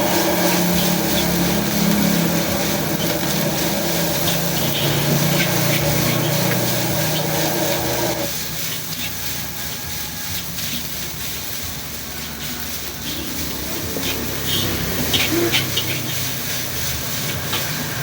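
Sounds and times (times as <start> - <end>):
mechanical hum: 0.0 - 18.0
metal spatula scraping wok: 0.0 - 18.0
wok sizzling: 0.0 - 18.0.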